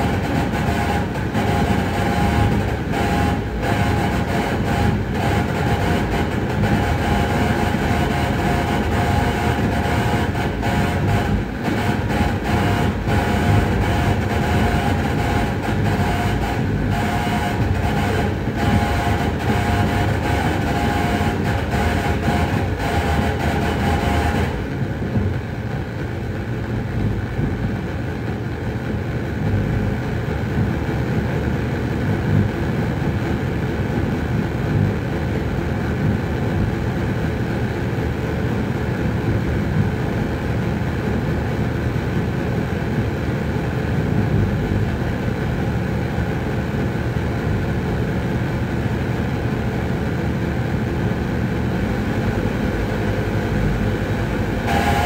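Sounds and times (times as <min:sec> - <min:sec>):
dense flickering synthesiser noise: 0:00.0 - 0:55.0.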